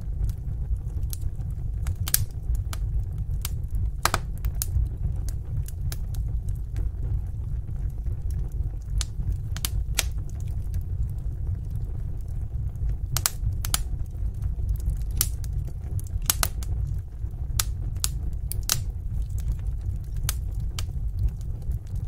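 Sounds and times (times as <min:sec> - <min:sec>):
fire pops and snaps: 0:00.0 - 0:22.0
fire rumbling: 0:00.0 - 0:22.0.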